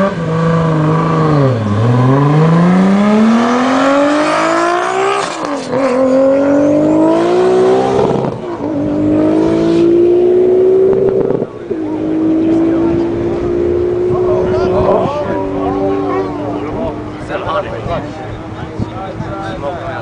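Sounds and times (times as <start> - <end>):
car engine revving and accelerating: 0.0 - 19.2.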